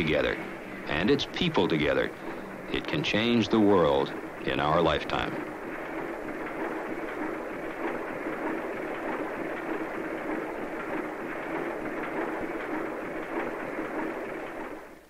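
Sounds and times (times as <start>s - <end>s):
faint low hum: 0.0s - 15.0s
steady rushing noise: 0.0s - 15.0s.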